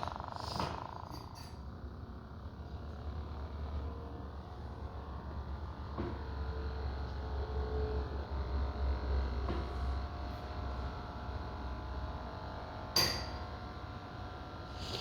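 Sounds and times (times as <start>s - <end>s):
faint motor whine: 0.0s - 15.0s
washing machine motor running: 0.0s - 15.0s.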